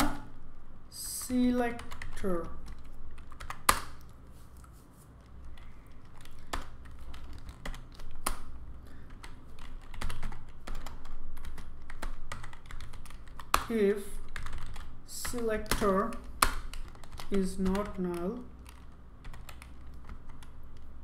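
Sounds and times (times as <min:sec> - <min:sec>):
computer keyboard typing: 0:01.1 - 0:04.2, 0:05.2 - 0:21.0.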